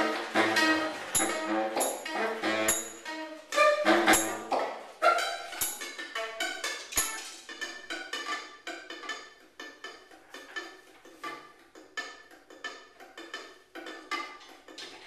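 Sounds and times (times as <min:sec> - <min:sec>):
mandolin picked: 0:00.0 - 0:15.0.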